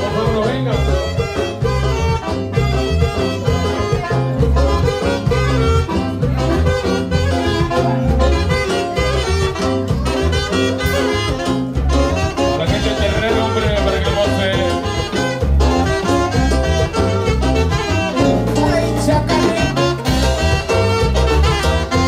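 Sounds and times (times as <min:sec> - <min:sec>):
latin dance music with brass: 0:00.0 - 0:22.0.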